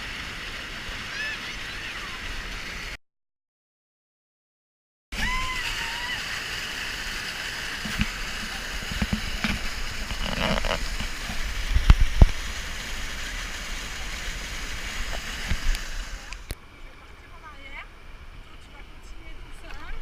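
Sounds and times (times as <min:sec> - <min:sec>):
rushing river water: 0:00.0 - 0:03.0, 0:05.2 - 0:20.0.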